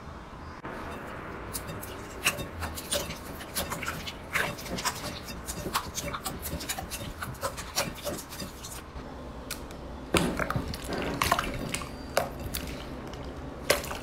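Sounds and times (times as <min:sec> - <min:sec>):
slime squishing by hand: 0:01.0 - 0:08.8, 0:10.2 - 0:14.0.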